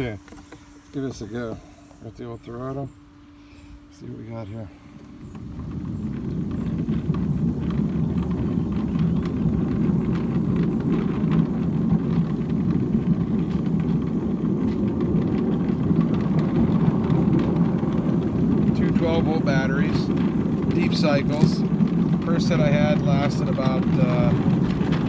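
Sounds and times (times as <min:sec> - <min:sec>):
wheels rumbling on rails: 0:01.0 - 0:25.0.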